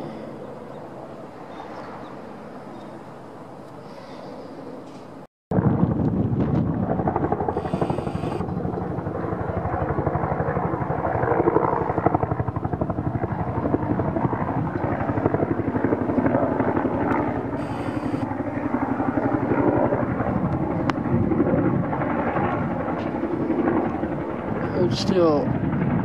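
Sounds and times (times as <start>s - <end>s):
helicopter rotor beating overhead: 0.0s - 26.0s.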